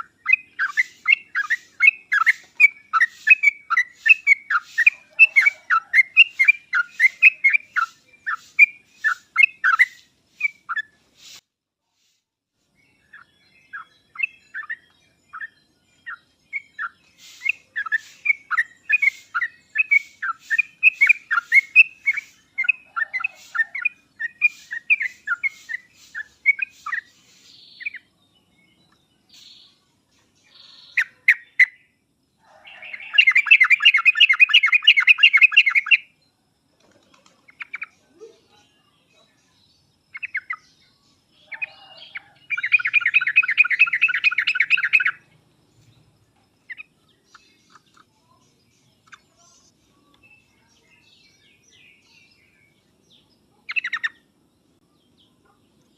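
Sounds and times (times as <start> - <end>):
bird chatter: 0.0 - 11.4, 12.0 - 28.1, 32.6 - 36.0, 36.8 - 52.8, 53.4 - 54.3
bulbul chirping song: 0.0 - 11.4, 12.0 - 36.5, 37.1 - 55.9.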